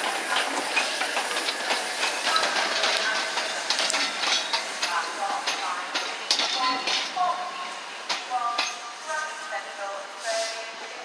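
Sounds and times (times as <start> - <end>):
wheels clicking and clanking on rails: 0.0 - 9.0
steam hissing: 0.0 - 11.0.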